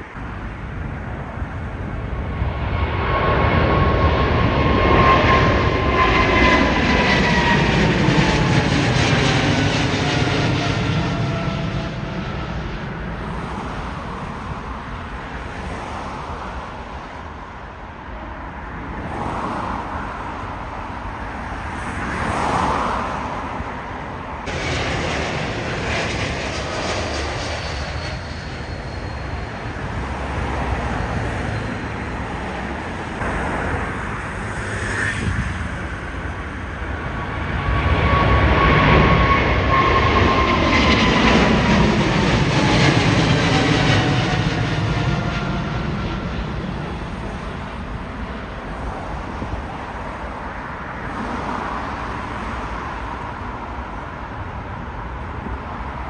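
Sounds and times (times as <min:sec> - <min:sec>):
jet engines passing: 0:00.0 - 0:56.0.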